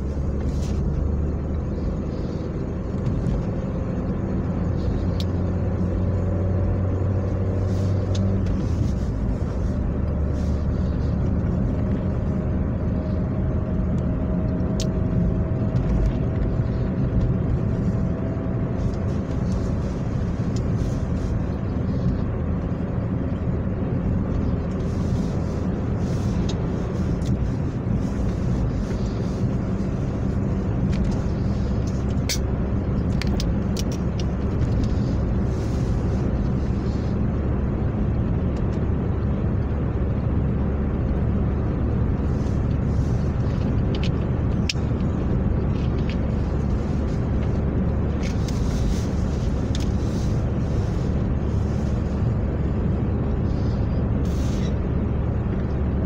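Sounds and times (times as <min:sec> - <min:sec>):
car engine hum: 0:00.0 - 0:56.0.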